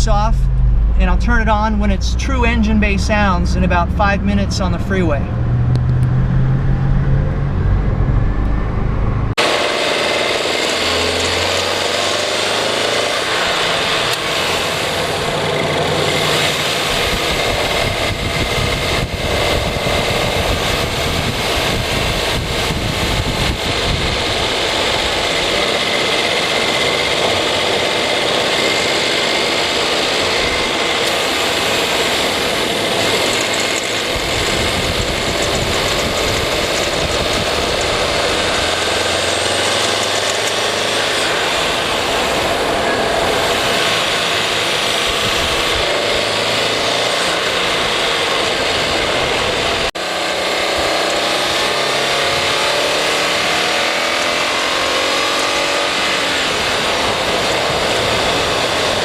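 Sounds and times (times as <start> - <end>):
car engine running while driving: 0.0 - 59.0.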